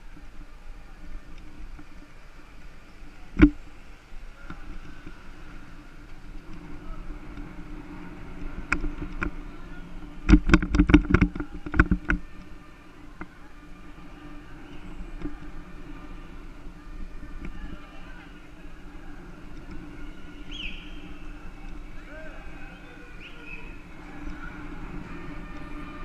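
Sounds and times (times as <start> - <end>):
bicycle rolling hum: 0.0 - 26.0.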